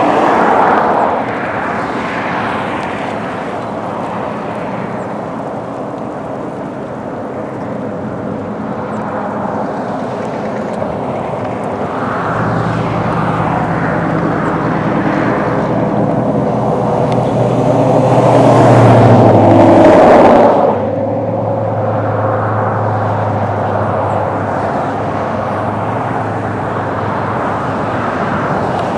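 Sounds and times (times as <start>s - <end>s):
road and wind noise: 0.0s - 28.9s
vehicle engine hum: 0.0s - 28.9s.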